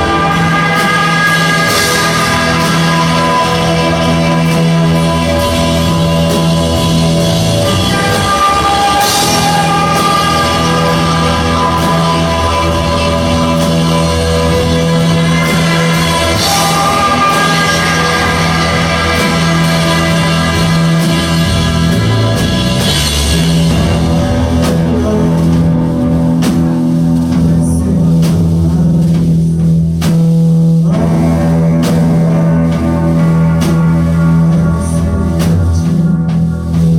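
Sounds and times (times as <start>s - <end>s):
rock band playing live: 0.0s - 36.9s.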